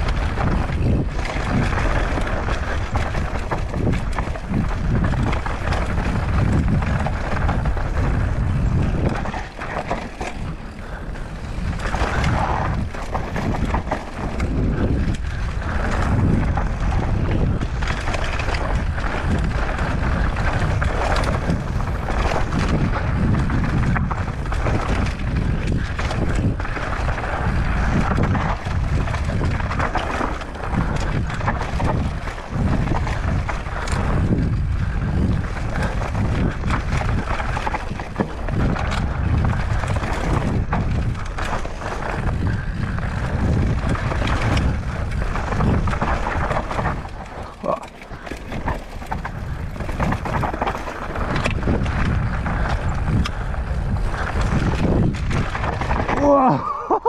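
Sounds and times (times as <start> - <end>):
bike knocking and rattling: 0.0 - 57.0
tyres crunching and skidding on dirt: 0.0 - 57.0
wind rushing over microphone: 0.0 - 57.0.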